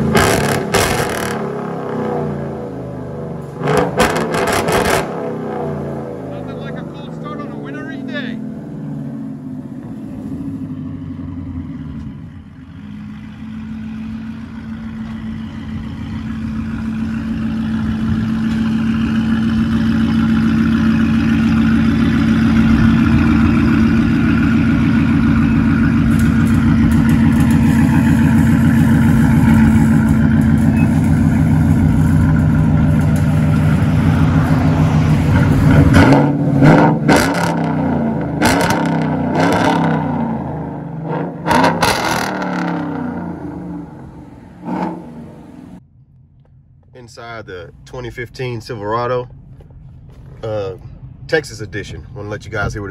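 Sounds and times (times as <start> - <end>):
engine exhaust deep note: 0.0 - 52.9.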